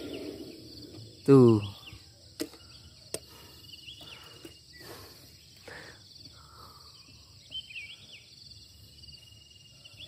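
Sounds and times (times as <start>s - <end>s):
bird chirps: 0.0s - 10.0s
insects chirring: 0.0s - 10.0s.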